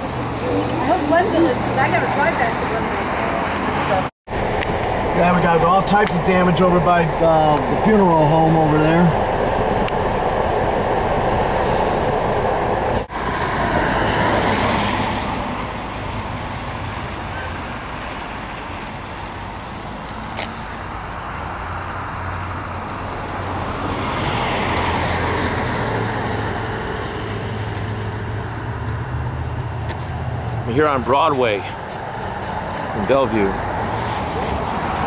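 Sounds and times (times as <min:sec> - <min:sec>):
vehicles going by: 0:00.0 - 0:35.0.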